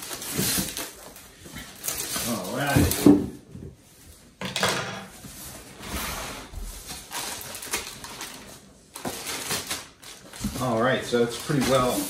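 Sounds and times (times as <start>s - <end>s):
plastic and cardboard rustling: 0.0s - 4.4s, 5.1s - 12.0s.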